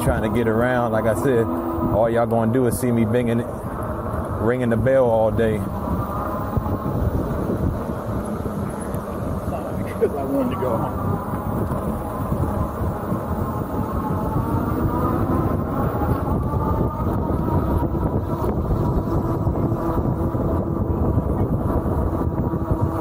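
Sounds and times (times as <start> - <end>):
electric bike motor whine: 0.0 - 23.0
wind rushing: 0.0 - 23.0.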